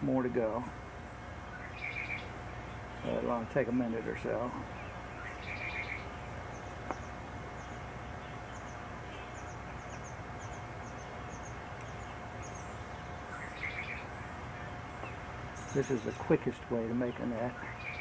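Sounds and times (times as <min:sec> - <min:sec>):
faint hum: 0:00.0 - 0:18.0
small birds chirping: 0:00.0 - 0:18.0.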